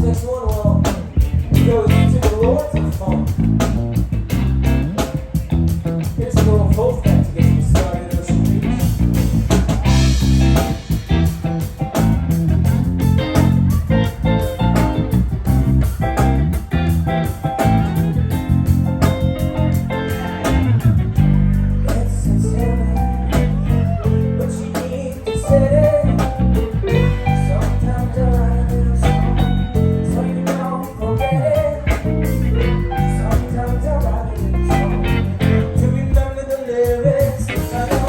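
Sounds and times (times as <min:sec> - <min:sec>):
bass line: 0:00.0 - 0:38.0
guitar: 0:00.0 - 0:38.0
steady drum beat: 0:00.0 - 0:38.0.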